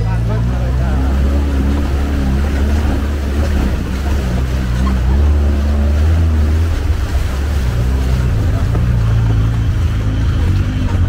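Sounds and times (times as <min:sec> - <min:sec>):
jeep engine droning: 0:00.0 - 0:11.0.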